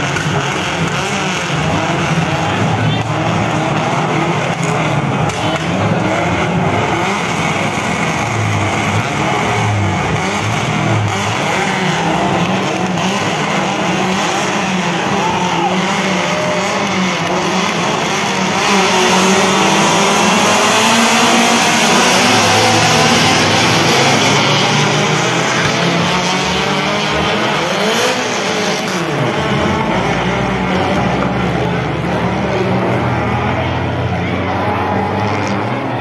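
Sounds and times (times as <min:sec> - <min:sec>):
race car engines running hard: 0:00.0 - 0:36.0.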